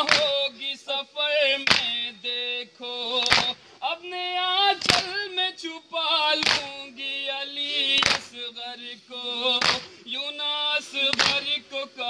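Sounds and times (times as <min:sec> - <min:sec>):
voices chanting a lament: 0:00.0 - 0:12.0.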